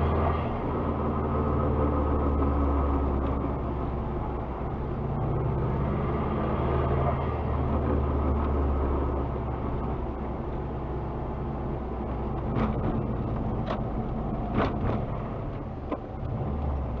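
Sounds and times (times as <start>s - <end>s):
low road rumble in car: 0.0s - 17.0s.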